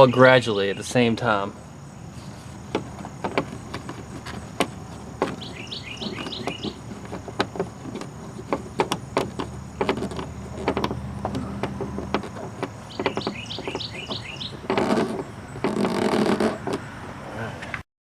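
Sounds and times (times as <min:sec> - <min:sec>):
bird chirping: 0:00.0 - 0:15.8
steady low hum: 0:00.0 - 0:17.7.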